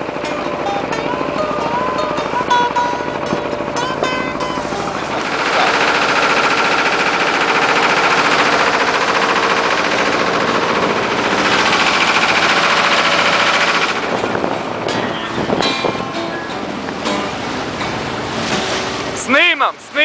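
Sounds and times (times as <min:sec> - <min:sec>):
boat engine pulsing: 0:00.0 - 0:20.0.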